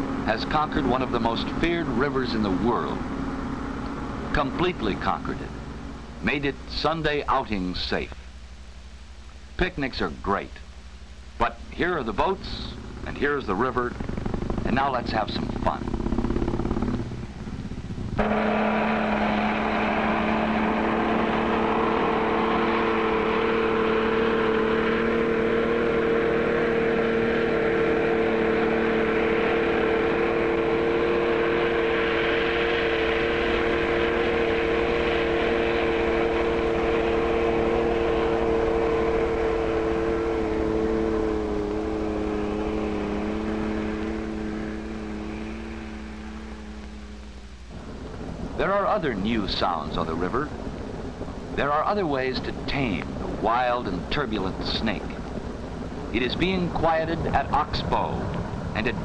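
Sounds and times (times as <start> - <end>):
motorboat engine droning: 0.0 - 59.0.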